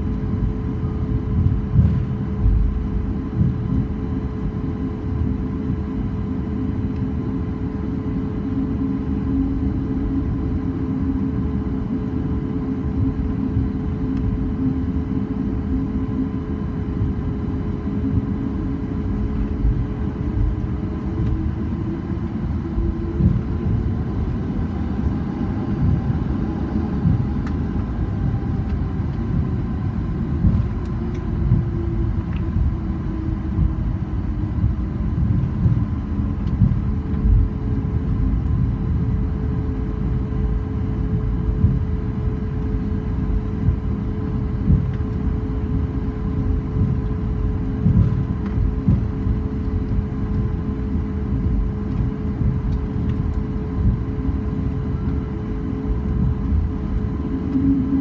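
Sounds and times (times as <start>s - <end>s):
airplane cabin rumble: 0.0s - 58.0s
jet engine hum: 0.0s - 58.0s.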